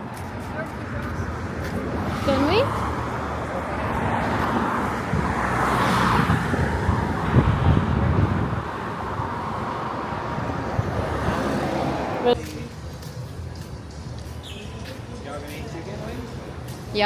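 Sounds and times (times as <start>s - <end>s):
road traffic noise: 0.0s - 17.0s
vehicle passing: 0.0s - 17.0s.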